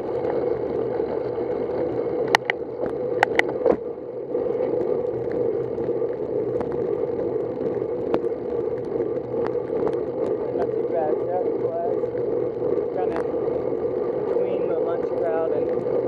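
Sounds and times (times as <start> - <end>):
bicycle tyre and wind noise: 0.0 - 16.0.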